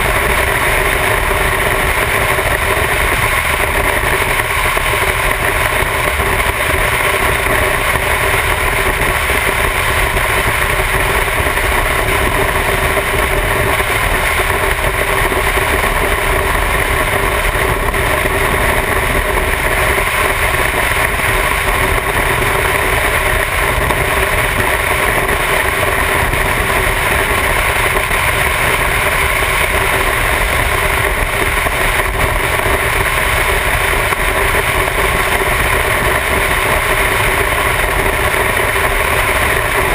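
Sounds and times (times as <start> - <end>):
motorcycle engine drone: 0.0 - 39.9
wind noise on microphone: 0.0 - 39.9.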